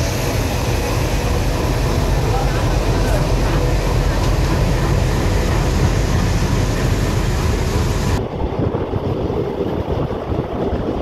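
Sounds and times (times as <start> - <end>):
train carriage rumble and rattle: 0.0 - 11.0
wind rushing over microphone: 0.0 - 11.0.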